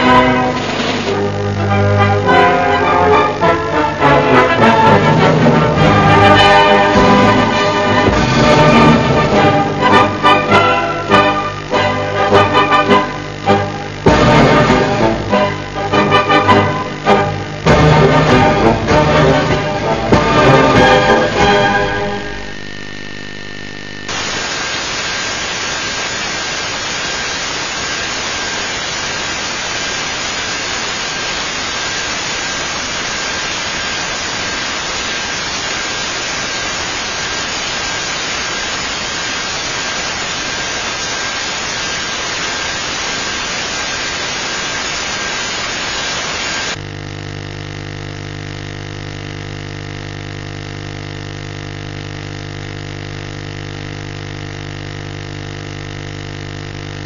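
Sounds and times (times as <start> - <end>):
loud static hiss: 0.0 - 57.0
low steady buzz: 0.0 - 57.0.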